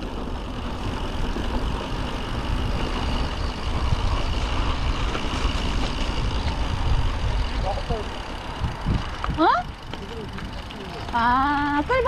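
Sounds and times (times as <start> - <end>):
bike rattling over ground: 0.0 - 12.0
wind rumble on microphone: 0.0 - 12.0.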